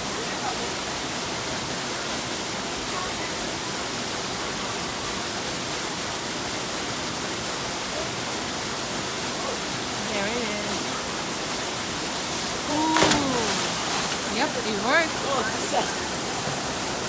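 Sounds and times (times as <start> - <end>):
waterfall roaring: 0.1 - 17.0.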